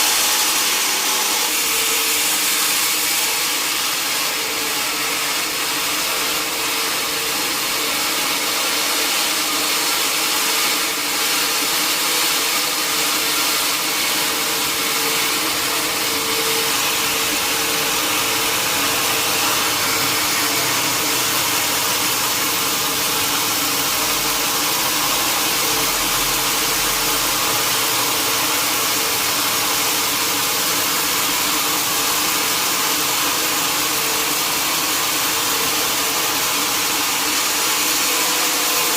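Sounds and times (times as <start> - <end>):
sawmill saw hissing and humming: 0.0 - 38.9.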